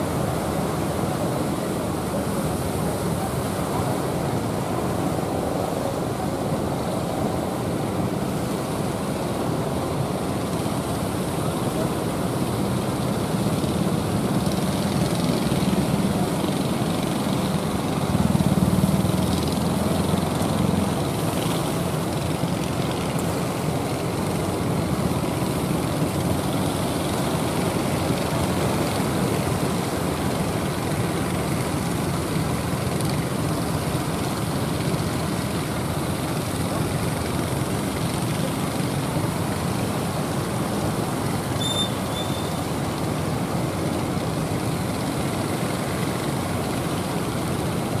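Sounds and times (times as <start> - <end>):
small boat motors droning: 0.0 - 48.0
waves washing: 0.0 - 48.0.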